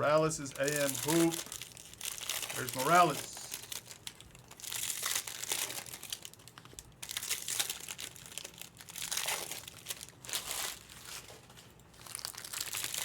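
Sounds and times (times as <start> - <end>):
plastic wrappers crinkling: 0.2 - 13.0.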